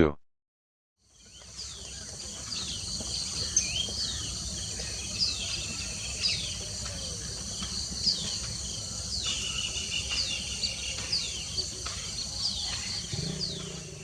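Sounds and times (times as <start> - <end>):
high-pitched insect chorus: 1.3 - 14.0.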